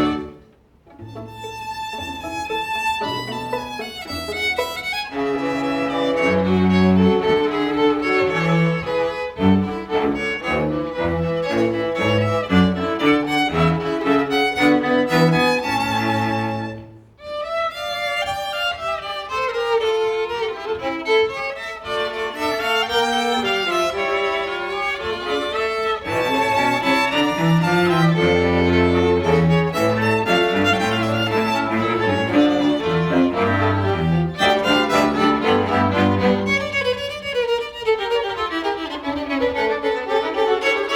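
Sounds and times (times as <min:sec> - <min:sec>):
cello: 0:00.0 - 0:40.9
violin: 0:00.0 - 0:40.9.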